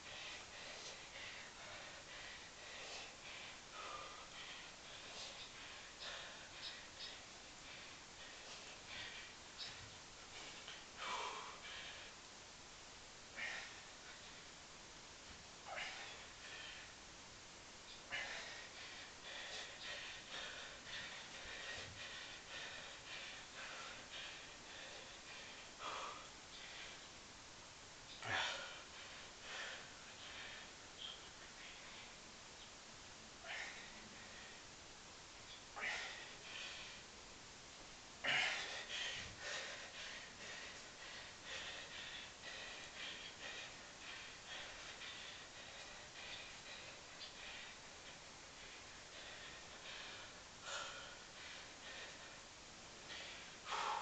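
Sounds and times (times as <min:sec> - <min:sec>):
man panting: 0:00.0 - 0:12.5, 0:13.2 - 0:14.6, 0:15.2 - 0:17.1, 0:18.0 - 0:27.2, 0:28.1 - 0:32.4, 0:33.4 - 0:34.9, 0:35.6 - 0:37.1, 0:38.1 - 0:54.0
man breathing heavily: 0:00.0 - 0:54.0.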